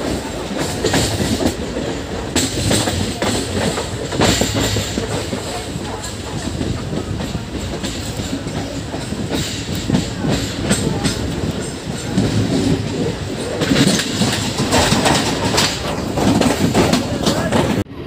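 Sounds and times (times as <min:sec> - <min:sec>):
wheels clacking over rail joints: 0:00.0 - 0:17.9
train coach rumble: 0:00.0 - 0:18.0.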